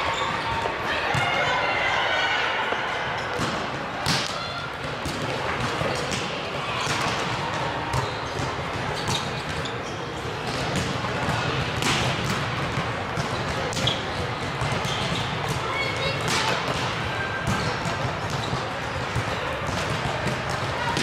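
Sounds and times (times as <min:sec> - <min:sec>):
balls bouncing on court floor: 0:02.7 - 0:21.0.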